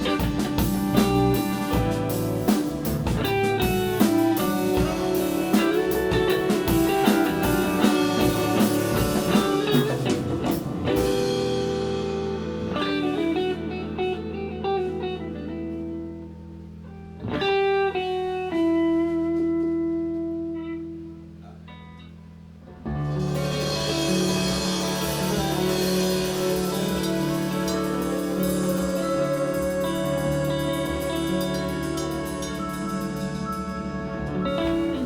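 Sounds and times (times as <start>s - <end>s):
live band playing blues-rock: 0.0s - 21.2s, 22.8s - 35.0s
electric guitar: 0.0s - 35.0s.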